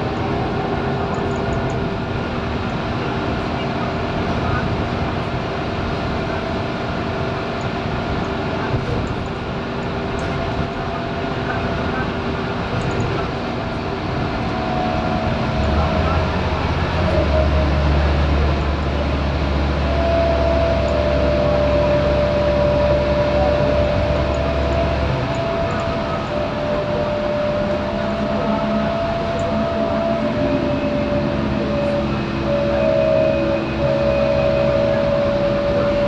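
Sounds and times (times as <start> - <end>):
bus diesel engine running: 0.0 - 36.0
steady whine: 0.0 - 36.0.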